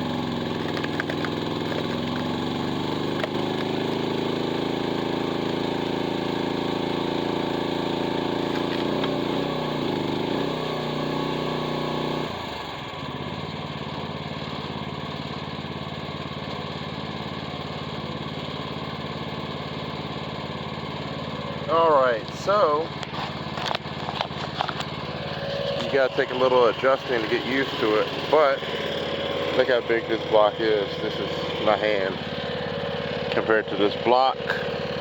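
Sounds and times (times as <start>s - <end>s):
excavator engine bogging and idling: 0.0s - 35.0s.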